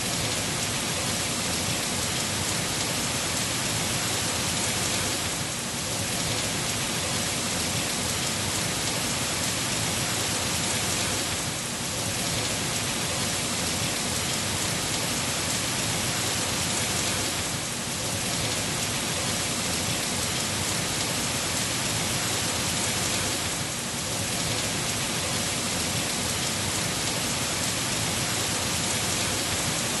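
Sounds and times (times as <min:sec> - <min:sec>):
heavy rain on leafy trees: 0:00.0 - 0:30.0.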